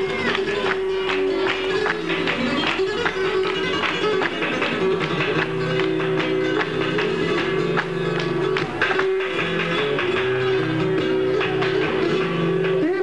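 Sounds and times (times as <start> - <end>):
flamenco guitar music: 0.0 - 13.0.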